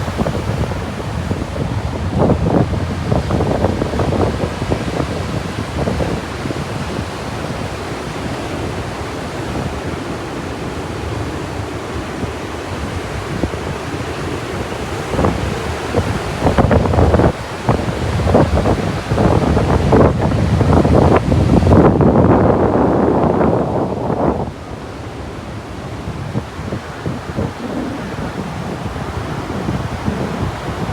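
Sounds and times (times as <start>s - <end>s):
ocean surf breaking: 0.0s - 30.9s
wind buffeting microphone: 0.0s - 30.9s.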